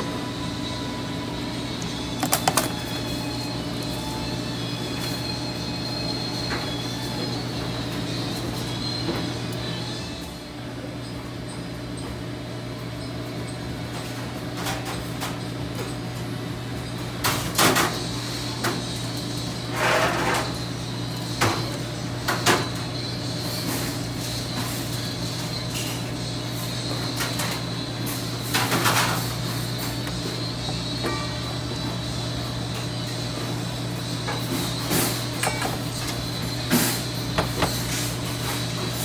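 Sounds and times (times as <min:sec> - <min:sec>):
low kitchen hum: 0:00.0 - 0:39.0.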